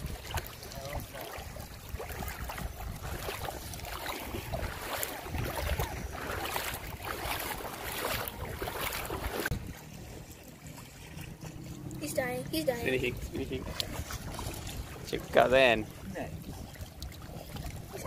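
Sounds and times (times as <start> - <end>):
wind on microphone: 0.0 - 10.4, 12.9 - 18.0
water splashing around legs: 0.0 - 18.0.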